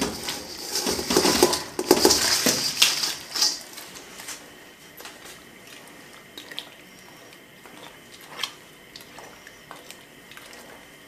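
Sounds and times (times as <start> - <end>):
water sloshing in a pot: 0.0 - 11.0.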